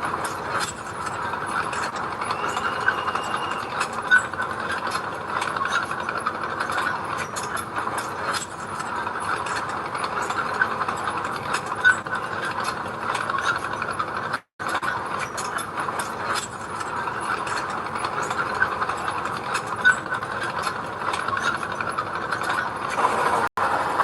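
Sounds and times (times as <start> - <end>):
bulldozer diesel engine: 0.0 - 24.0
steel tracks clattering: 0.0 - 24.0.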